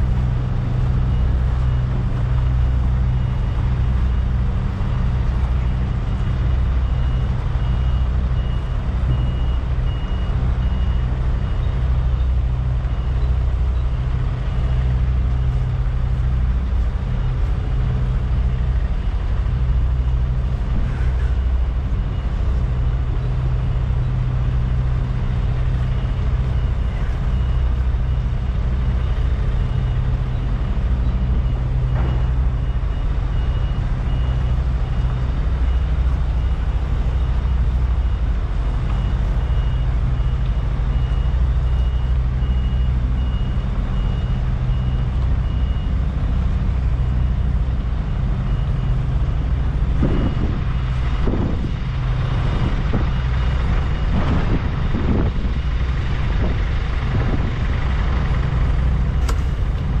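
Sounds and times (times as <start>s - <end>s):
reversing alarm beeping: 0.0s - 60.0s
truck diesel engine running: 0.0s - 60.0s.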